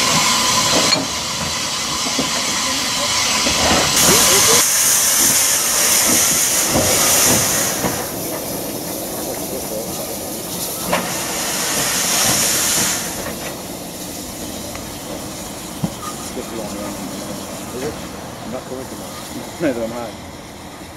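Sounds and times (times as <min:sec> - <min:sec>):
drain cocks hissing: 0:00.0 - 0:19.6
steam locomotive pulling away: 0:00.0 - 0:20.9.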